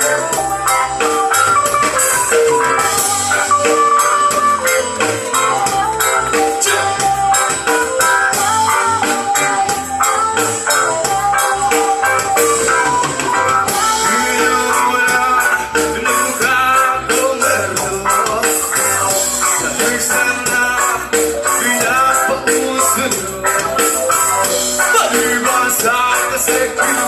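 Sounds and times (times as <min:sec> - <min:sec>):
loud instrumental music: 0:00.0 - 0:27.0.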